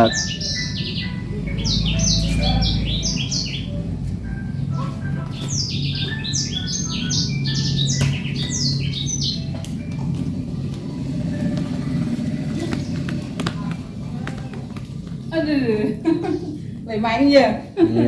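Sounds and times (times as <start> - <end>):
small birds chirping: 0.0 - 17.5
steady low hum: 0.0 - 18.0.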